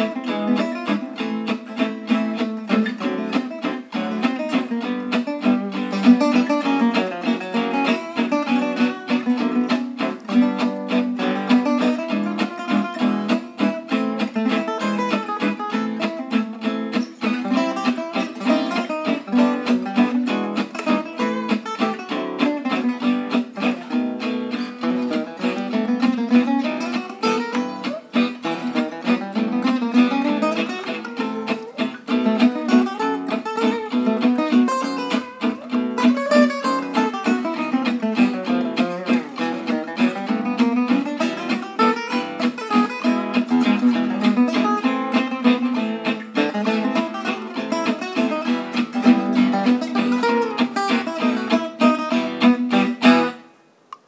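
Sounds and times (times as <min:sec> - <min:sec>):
plucked acoustic guitar music: 0:00.0 - 0:54.0.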